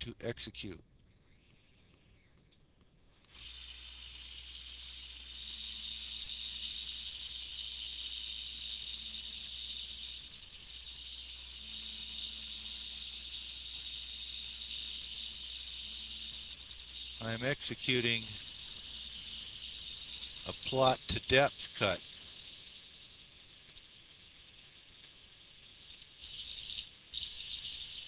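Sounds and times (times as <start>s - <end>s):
milling machine hiss and hum: 3.3s - 28.0s.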